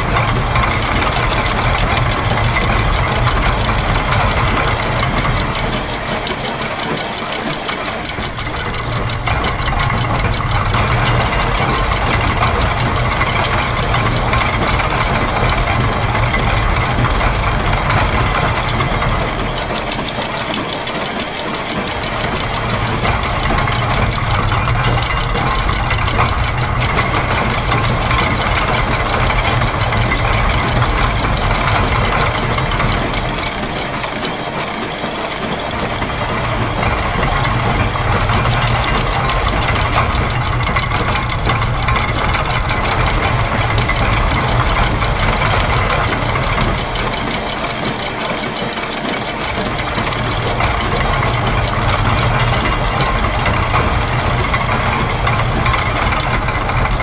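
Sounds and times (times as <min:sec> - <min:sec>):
mechanical clatter of rapid ticks: 0:00.0 - 0:57.0.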